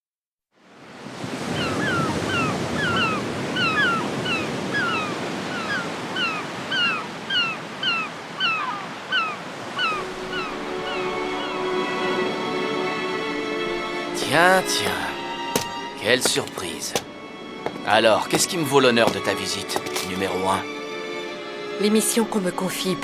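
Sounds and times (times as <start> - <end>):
surf washing: 0.7 - 21.0
birds chirping: 1.4 - 21.0.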